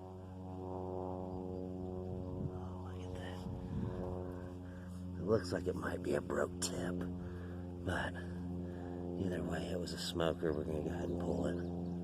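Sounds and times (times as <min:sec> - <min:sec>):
low droning hum: 0:00.0 - 0:12.0.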